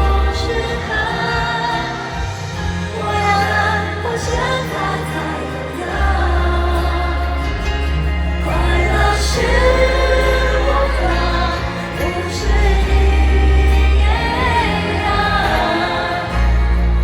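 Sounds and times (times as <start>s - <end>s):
pop ballad over sound system: 0.0s - 17.0s.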